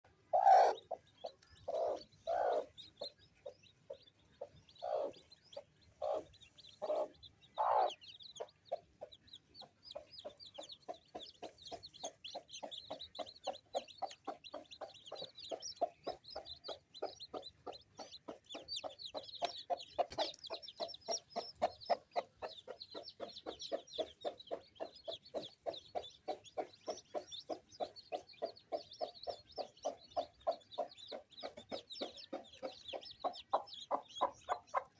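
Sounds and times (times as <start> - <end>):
chicks peeping: 0.1 - 34.9
hen clucking: 0.1 - 34.9.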